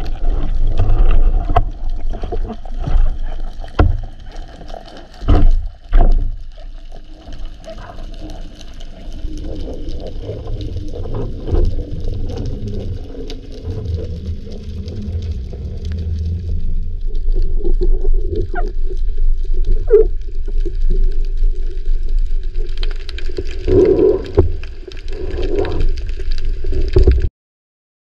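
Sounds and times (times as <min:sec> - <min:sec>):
faint crackling: 0:00.0 - 0:27.3
underwater rumble of water: 0:00.0 - 0:27.3.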